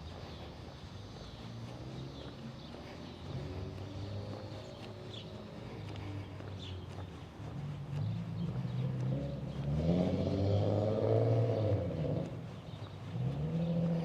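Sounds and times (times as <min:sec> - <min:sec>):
cars accelerating past: 0:01.3 - 0:06.7, 0:07.5 - 0:14.0.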